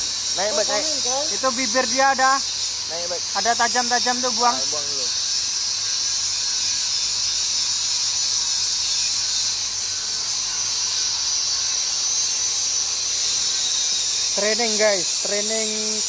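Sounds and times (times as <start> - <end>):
welding equipment hissing: 0.0 - 16.0.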